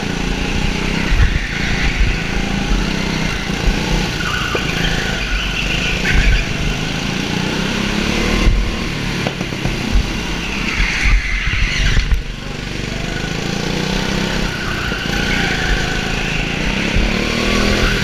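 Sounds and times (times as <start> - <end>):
go-kart engine running: 0.0 - 18.0.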